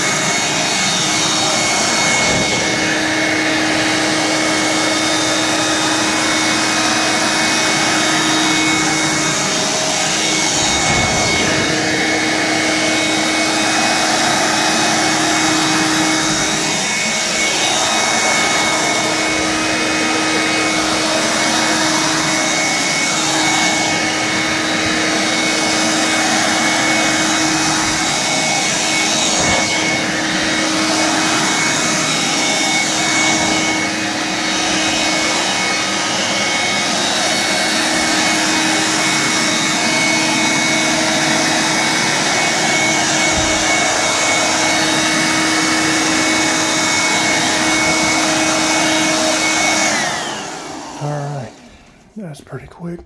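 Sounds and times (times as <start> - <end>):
hand vacuum motor whine: 0.0 - 52.1.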